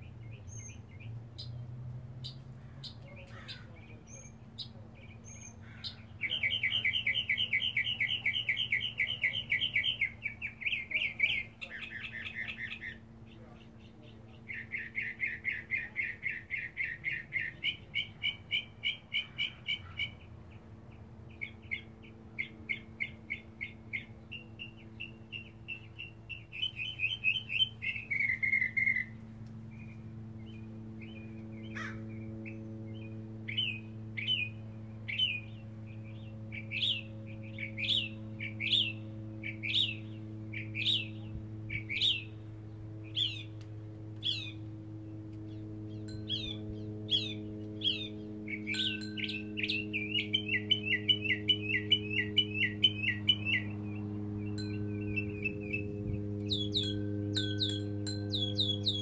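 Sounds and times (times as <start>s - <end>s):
mockingbird singing: 0.0s - 59.0s
steady low hum: 0.0s - 59.0s.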